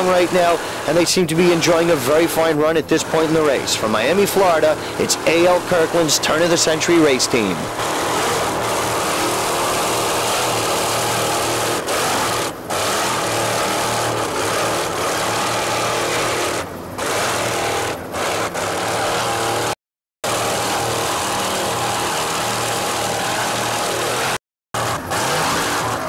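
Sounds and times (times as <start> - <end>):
powerboat engine drone: 0.0 - 26.0.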